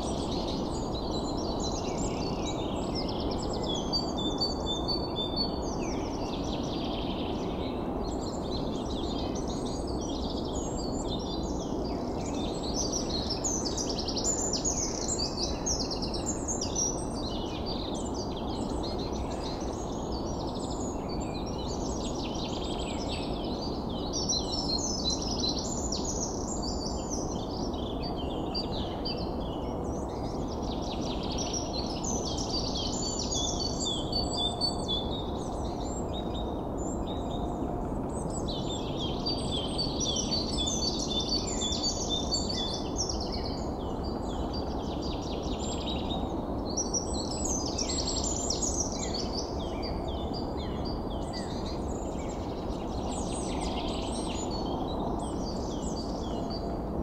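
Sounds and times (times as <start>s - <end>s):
many birds chirping and trilling: 0.0s - 57.0s.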